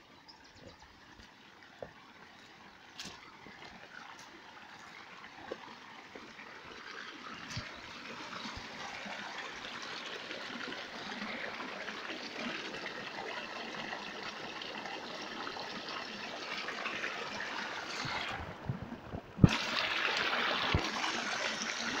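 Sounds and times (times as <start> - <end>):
water trickling through a channel: 0.0 - 22.0
rush of flowing water: 0.6 - 22.0.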